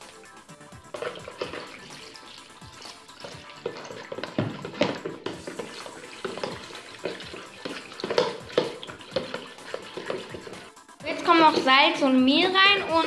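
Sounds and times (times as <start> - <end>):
water splashing in bowl: 0.8 - 13.0.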